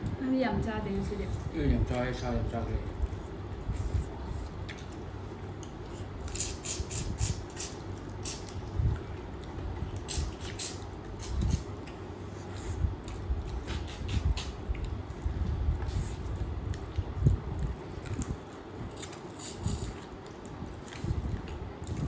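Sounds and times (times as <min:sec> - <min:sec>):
chewing and mouth smacks: 0:02.9 - 0:22.0.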